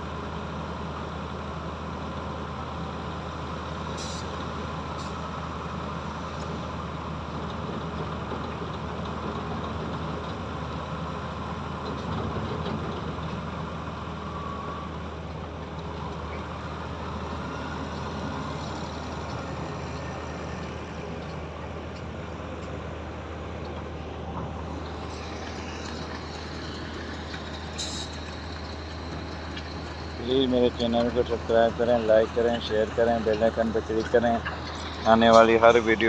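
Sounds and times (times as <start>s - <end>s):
diesel machinery humming: 0.0s - 36.0s.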